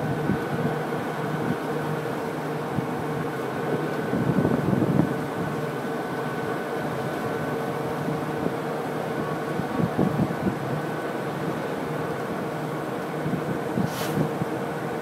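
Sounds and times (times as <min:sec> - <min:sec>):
locomotive engine hum: 0:00.0 - 0:15.0.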